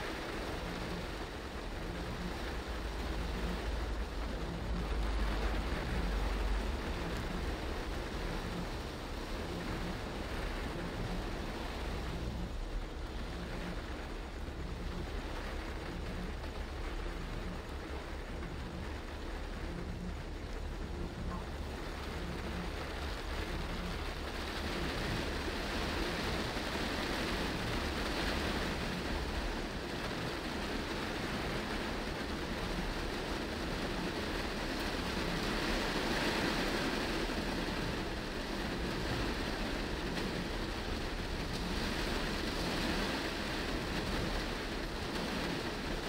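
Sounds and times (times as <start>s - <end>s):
heavy rain on a car: 0.0s - 46.0s
tyres hissing on wet road: 0.0s - 46.0s.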